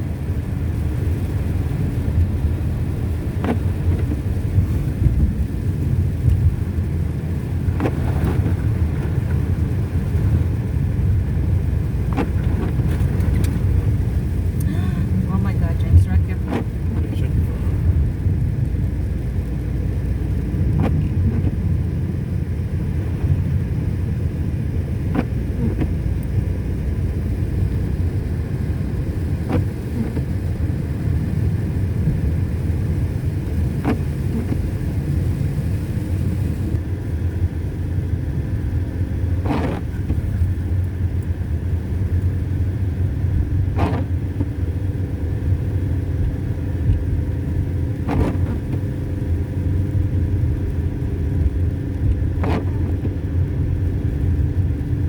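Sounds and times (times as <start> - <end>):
car driving on slushy road: 0.0 - 55.0.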